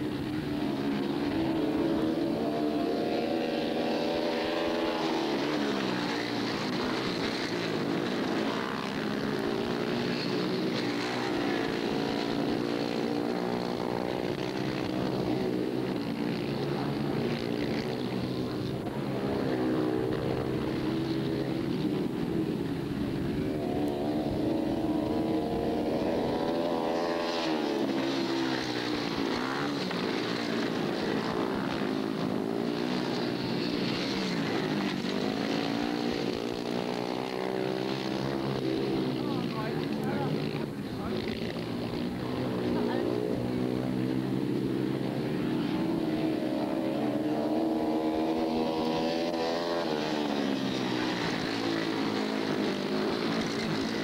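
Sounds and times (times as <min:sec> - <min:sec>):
racing motorcycle engines: 0:00.0 - 0:54.0.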